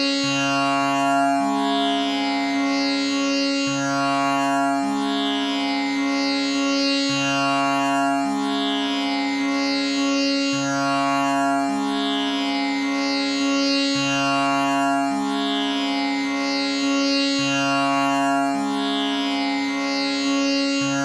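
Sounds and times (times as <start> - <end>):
tanpura drone: 0.0 - 21.0.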